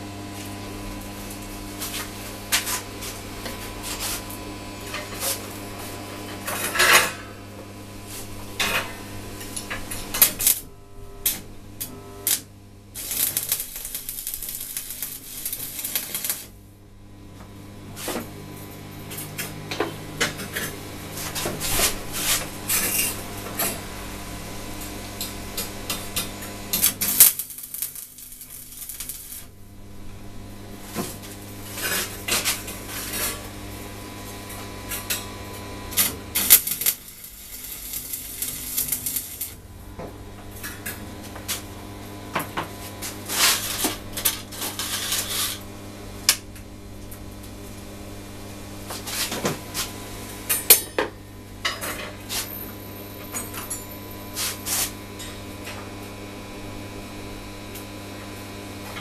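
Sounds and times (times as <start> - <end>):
arc welding crackling: 0.0 - 59.0
welder electrical hum: 0.0 - 59.0.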